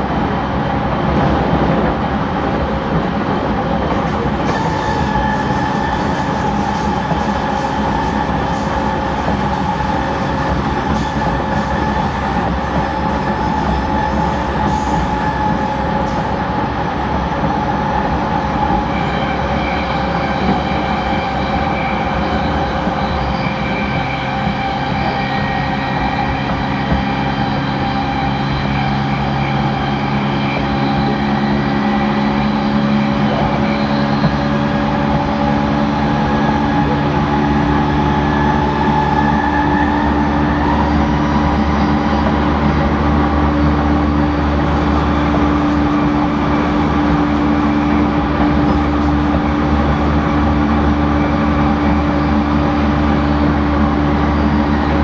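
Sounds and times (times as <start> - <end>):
train electrical hum and whine: 0.0 - 55.0.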